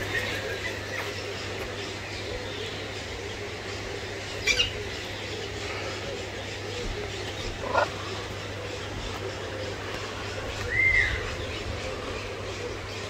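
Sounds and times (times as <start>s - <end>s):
birds calling: 0.0s - 13.0s
steady background hum: 0.0s - 13.0s.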